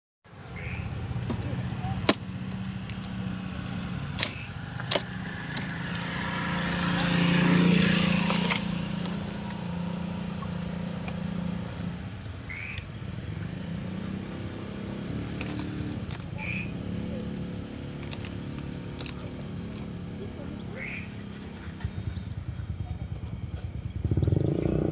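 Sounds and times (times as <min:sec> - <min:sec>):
low motor hum: 0:00.6 - 0:24.9
sharp clicks: 0:00.8 - 0:22.4.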